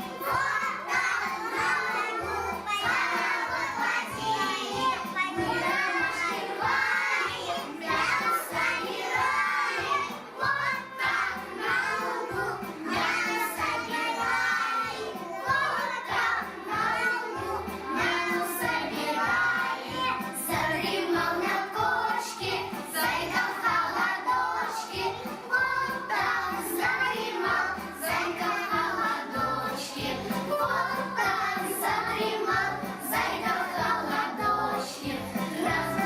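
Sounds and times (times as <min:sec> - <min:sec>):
children singing: 0:00.0 - 0:36.0
music with steady beat: 0:00.0 - 0:36.0.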